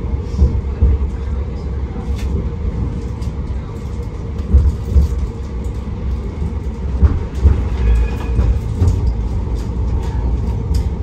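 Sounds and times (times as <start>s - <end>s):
tram wheels rumbling on track: 0.0s - 11.0s.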